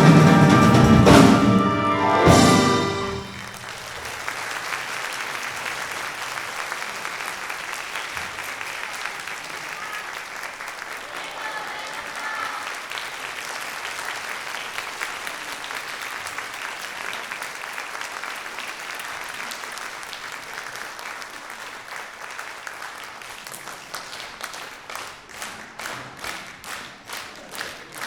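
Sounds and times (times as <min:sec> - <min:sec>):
rhythmic clapping in unison: 0:00.0 - 0:11.4, 0:12.7 - 0:28.0
audience applauding: 0:00.0 - 0:28.0.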